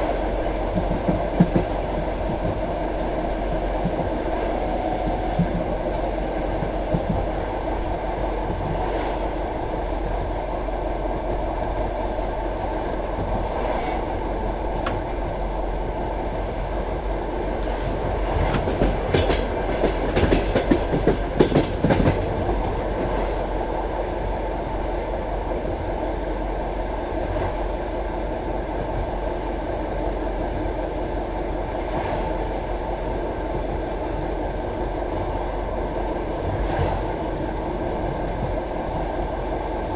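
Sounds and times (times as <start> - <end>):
clickety-clack of rail joints: 0.0 - 39.9
train wheels rumbling on rails: 0.0 - 39.9.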